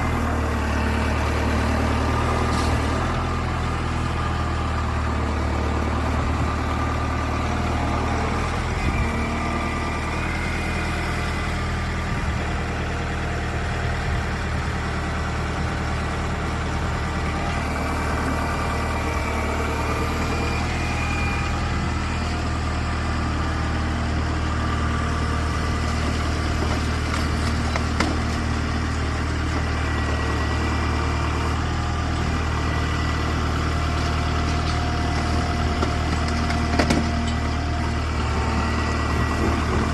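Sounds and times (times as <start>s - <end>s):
heavy machine engine idling: 0.0s - 39.9s.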